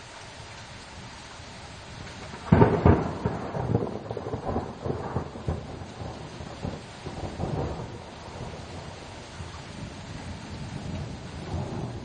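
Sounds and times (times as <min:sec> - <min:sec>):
steady rain: 0:00.0 - 0:12.0
thunder crack and rumble: 0:02.0 - 0:12.0.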